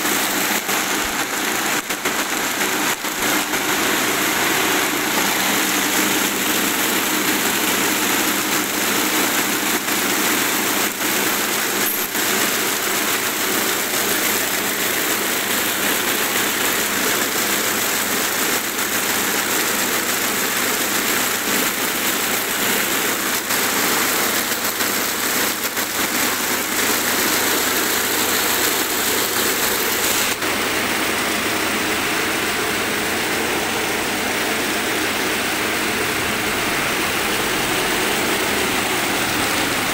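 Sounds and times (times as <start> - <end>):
braiding machine running: 0.0 - 39.9.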